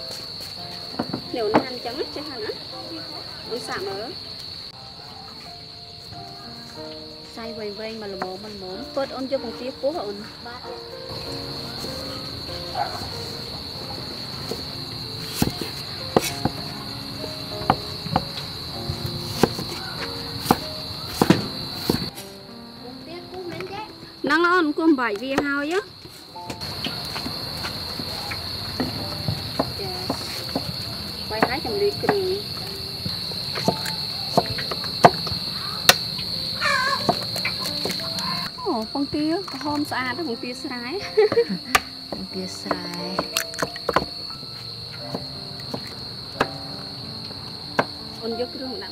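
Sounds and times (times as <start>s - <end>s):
crickets chirring: 0.0s - 48.9s.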